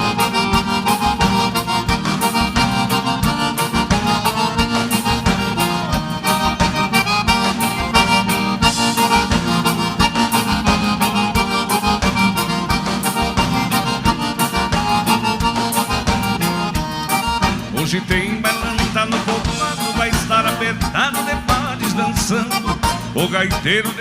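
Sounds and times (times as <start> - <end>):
accordion melody: 0.0 - 24.0
bass and drum beat: 0.0 - 24.0.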